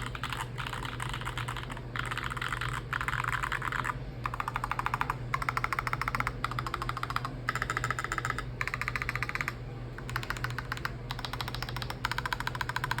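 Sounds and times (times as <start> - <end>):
mechanical keyboard typing: 0.0 - 13.0.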